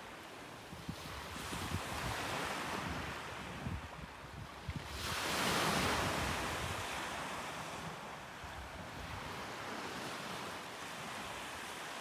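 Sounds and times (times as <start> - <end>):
sea waves washing onto shore: 0.0 - 12.0
wind buffeting microphone: 0.7 - 10.4.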